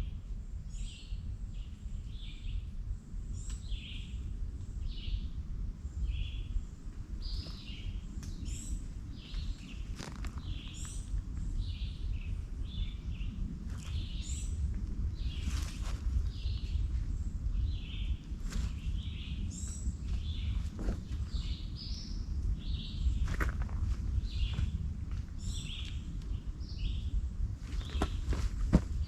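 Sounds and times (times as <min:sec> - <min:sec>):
steady low rumble: 0:00.0 - 0:29.0
wild birds chirping: 0:03.3 - 0:29.0.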